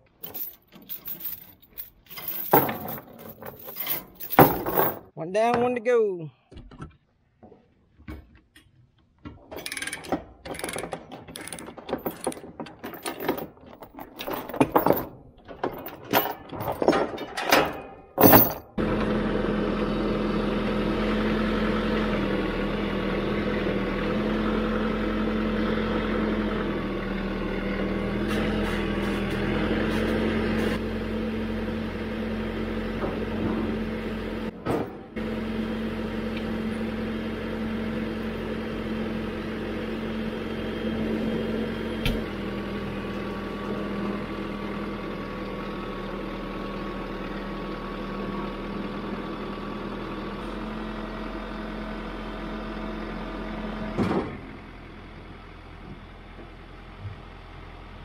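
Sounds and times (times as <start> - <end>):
tractor diesel engine running: 11.1 - 58.0.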